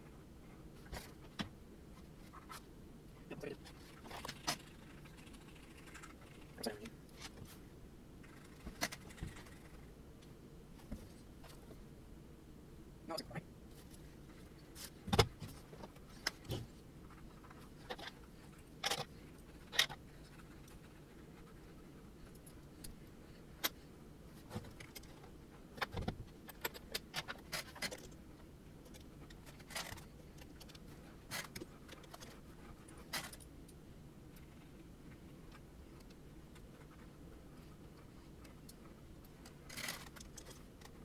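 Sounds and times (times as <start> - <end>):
faint low hum: 0.0 - 41.0.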